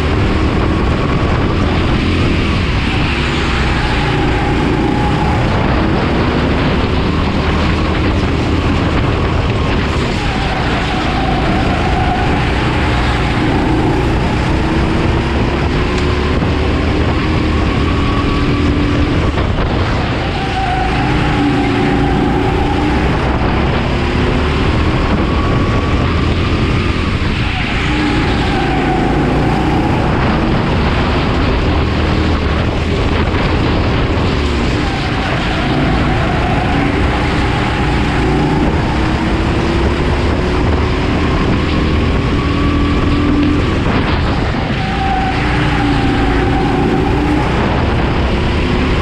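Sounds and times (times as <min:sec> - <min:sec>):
go-kart engine accelerating: 0:00.0 - 0:49.0.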